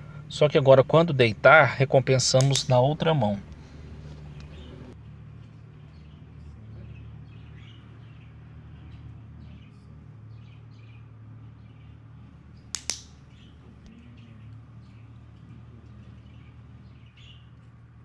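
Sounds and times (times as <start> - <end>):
birds chirping faintly: 0.0 - 18.0
low steady hum: 0.0 - 18.0.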